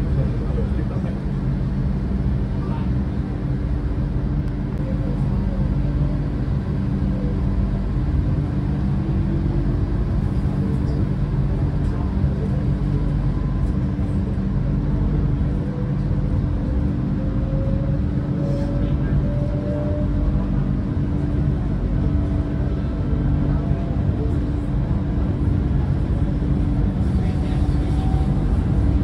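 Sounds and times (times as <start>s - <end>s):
electric train rumble and hum: 0.0s - 29.0s.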